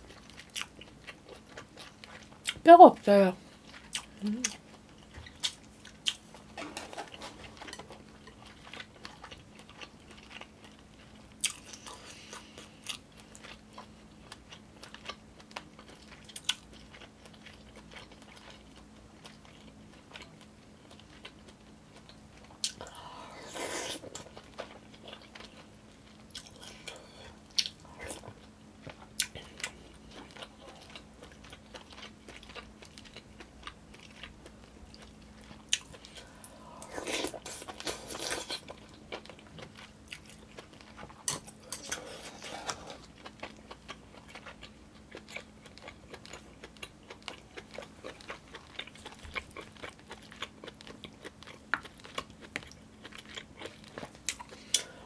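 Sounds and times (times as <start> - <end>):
person chewing: 0.0 - 2.6, 3.5 - 55.0.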